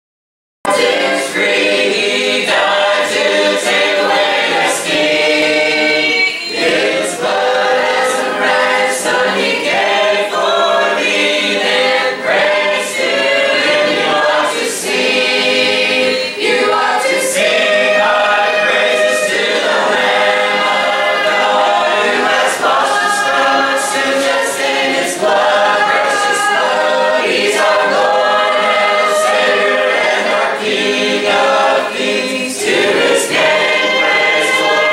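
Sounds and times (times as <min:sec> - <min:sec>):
congregation singing a hymn: 0:00.7 - 0:34.9.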